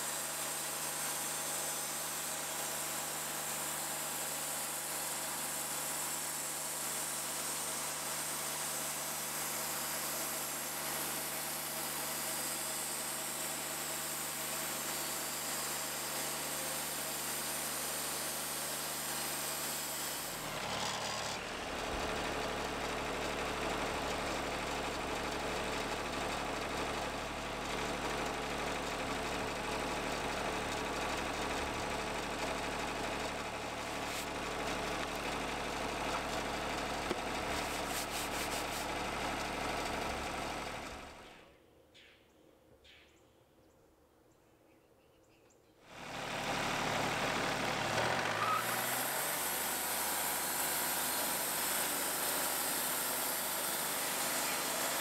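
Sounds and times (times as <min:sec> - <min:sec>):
band sawmill sawing log: 0:00.0 - 0:41.4, 0:45.9 - 0:55.0.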